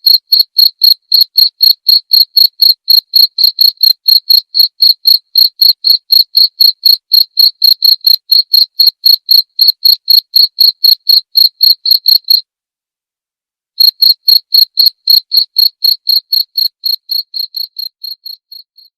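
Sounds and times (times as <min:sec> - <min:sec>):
cricket chirping: 0:00.1 - 0:12.4, 0:13.8 - 0:18.9.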